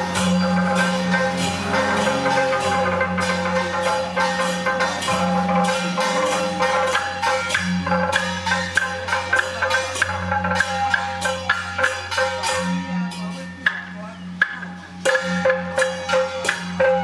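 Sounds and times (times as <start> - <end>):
gongs and hand cymbals: 0.0 - 17.0.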